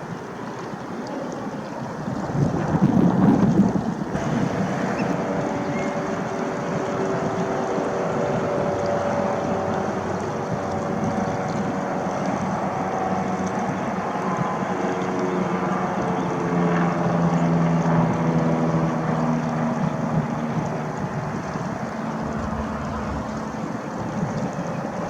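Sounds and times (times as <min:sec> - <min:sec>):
motor droning: 0:02.6 - 0:25.0.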